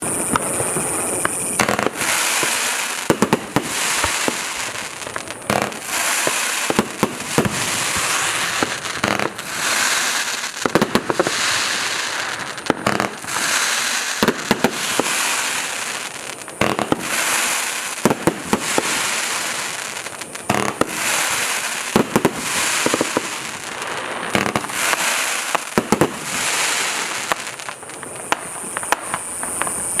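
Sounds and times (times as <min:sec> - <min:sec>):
firework stars hissing and crackling: 0:00.0 - 0:30.0
firework tubes launching with thumps: 0:00.0 - 0:30.0.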